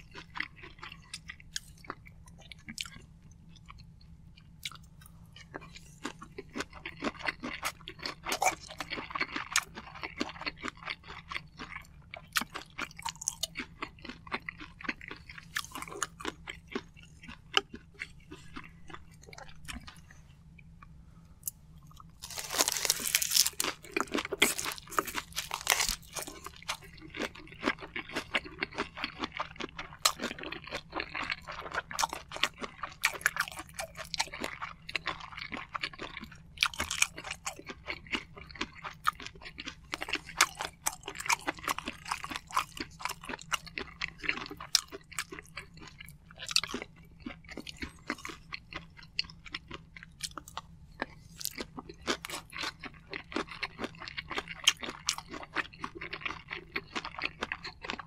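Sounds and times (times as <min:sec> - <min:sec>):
close chewing with mouth clicks: 0:00.0 - 0:58.0.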